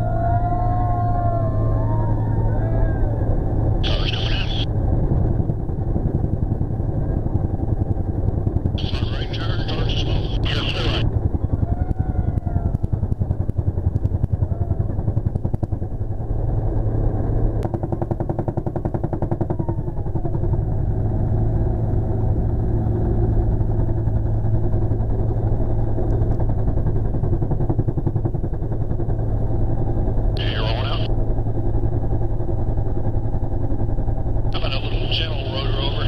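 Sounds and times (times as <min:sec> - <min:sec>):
helicopter rotor beat: 0:00.0 - 0:36.0
helicopter turbine engine drone: 0:00.0 - 0:36.0.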